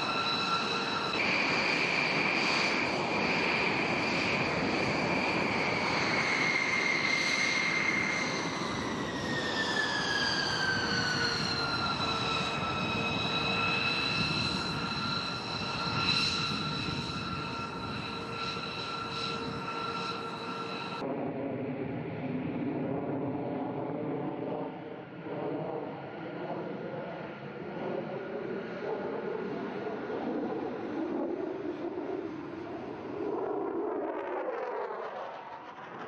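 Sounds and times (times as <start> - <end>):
jet engine rumble and whine: 0.0 - 36.0.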